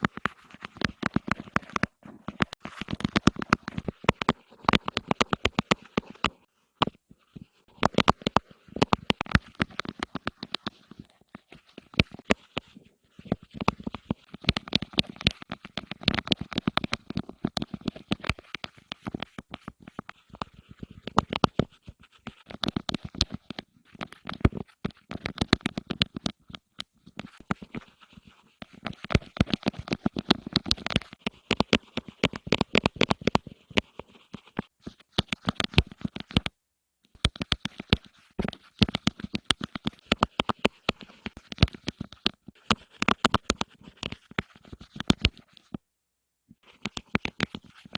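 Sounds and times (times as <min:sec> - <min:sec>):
tapping close to microphone: 0:00.0 - 0:28.0, 0:28.6 - 0:36.6, 0:37.2 - 0:45.8
scratching close to microphone: 0:00.0 - 0:36.5, 0:37.1 - 0:45.8, 0:46.6 - 0:47.9.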